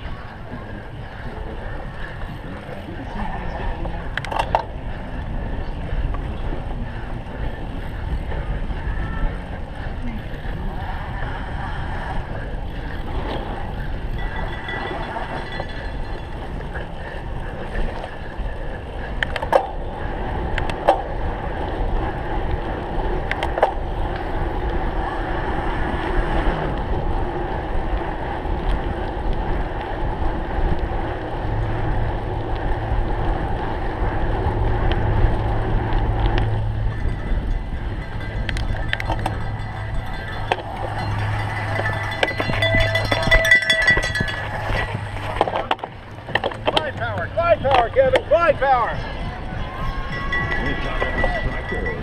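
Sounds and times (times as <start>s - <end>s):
bike tyres rumbling on rough ground: 0.0s - 52.0s
wind on microphone: 0.0s - 52.0s.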